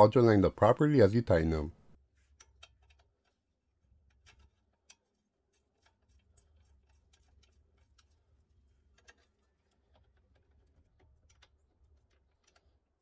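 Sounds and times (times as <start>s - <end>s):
faint metal clicks of nut spinning: 2.3s - 13.0s.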